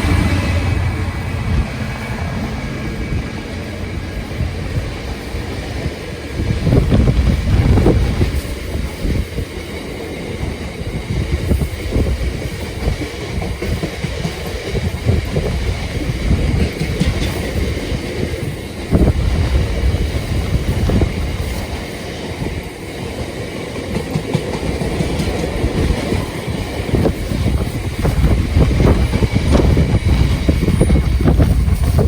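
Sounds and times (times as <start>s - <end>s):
train wheels clattering over rails: 0.0s - 32.0s.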